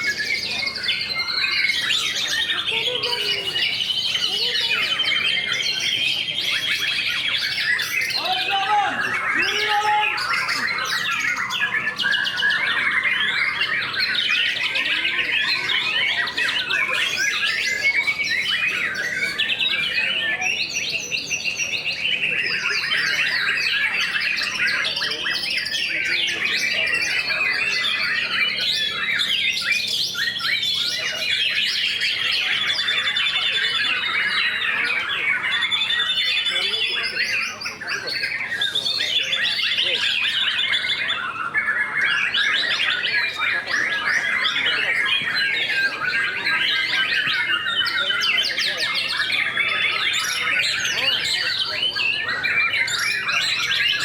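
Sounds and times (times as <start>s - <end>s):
songbirds whistling and chirping: 0.0s - 54.0s.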